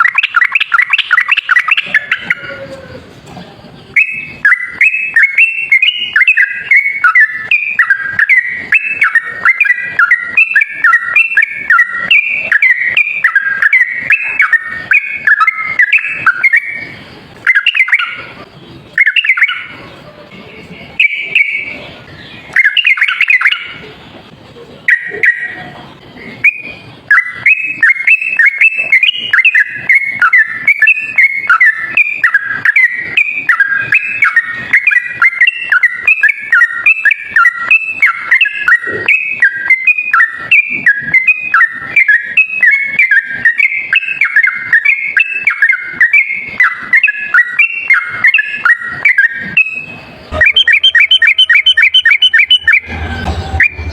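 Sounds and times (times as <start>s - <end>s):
bird chattering song: 0.0s - 53.9s.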